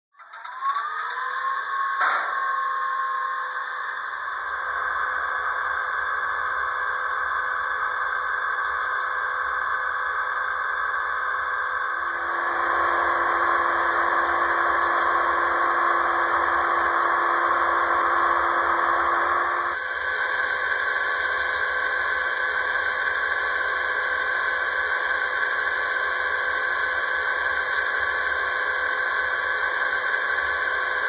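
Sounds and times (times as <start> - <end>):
electric whine and hiss: 0.3 - 31.0.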